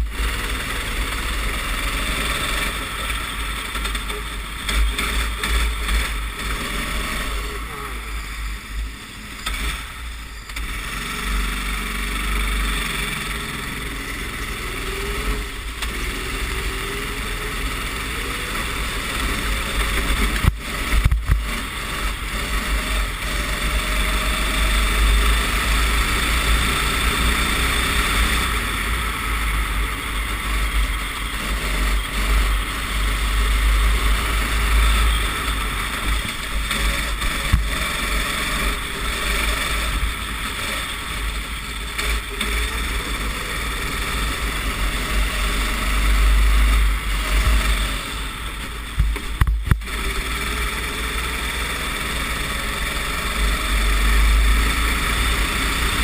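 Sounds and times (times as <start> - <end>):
racing kart engine: 0.0 - 56.0.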